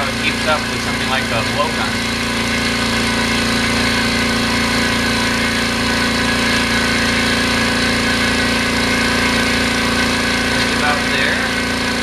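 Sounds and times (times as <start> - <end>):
air compressor motor hum: 0.0 - 12.0
compressor hissing: 0.0 - 12.0.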